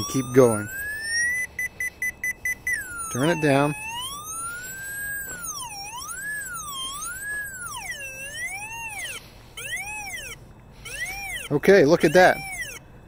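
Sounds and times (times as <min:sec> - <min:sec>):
locator receiver tone swooping: 0:00.0 - 0:12.8.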